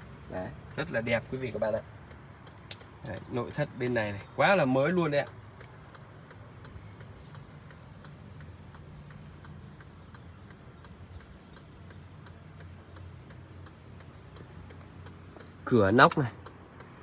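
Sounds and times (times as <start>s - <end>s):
steady ticking: 0.0s - 17.0s.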